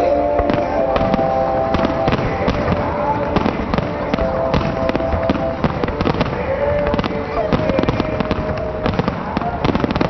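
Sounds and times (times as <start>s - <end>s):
firework bangs: 0.0s - 10.0s
firework crackling: 0.0s - 10.0s.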